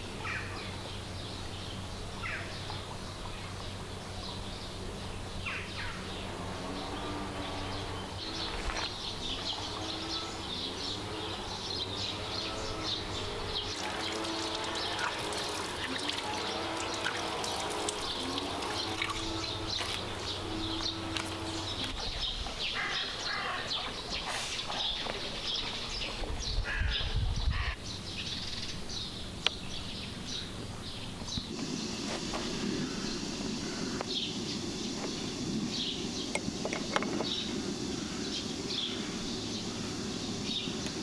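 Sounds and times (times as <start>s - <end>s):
small birds chirping: 0.0s - 41.0s
steady low hum: 0.0s - 41.0s.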